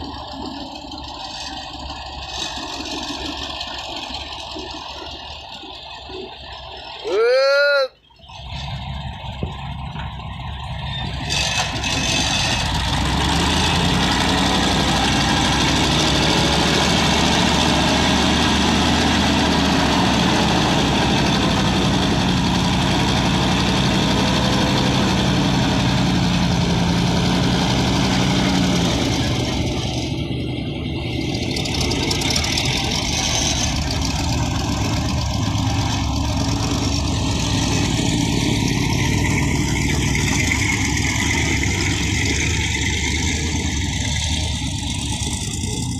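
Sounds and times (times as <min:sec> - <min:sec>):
heavy diesel engine running: 0:00.0 - 0:07.3, 0:08.1 - 0:45.9.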